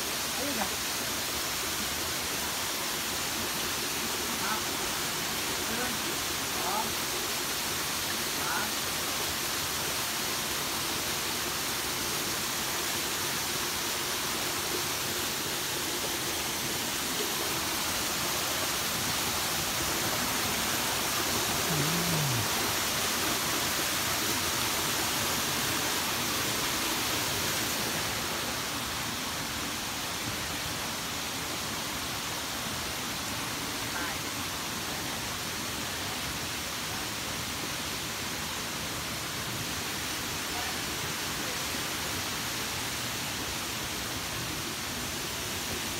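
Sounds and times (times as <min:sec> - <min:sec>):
waterfall and stream rushing: 0:00.0 - 0:45.9.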